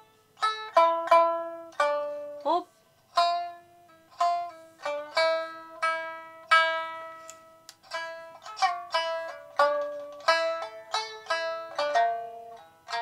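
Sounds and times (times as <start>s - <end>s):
shamisen plucked notes: 0.0s - 13.0s.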